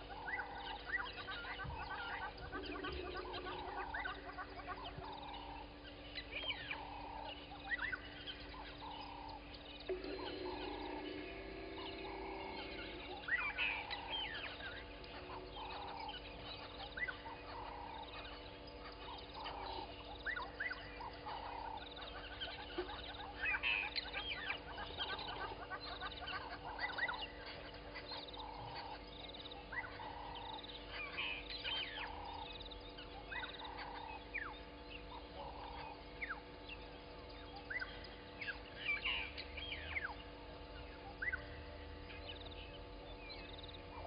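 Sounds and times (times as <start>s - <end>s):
bird repeating a low note: 0.0s - 44.0s
birds chirping and whistling: 0.0s - 44.0s.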